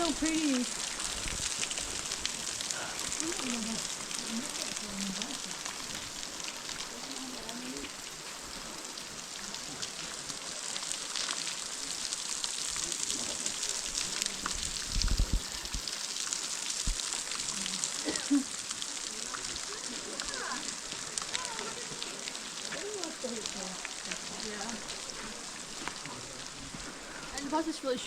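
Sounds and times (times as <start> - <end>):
water dripping onto rock: 0.0 - 28.0.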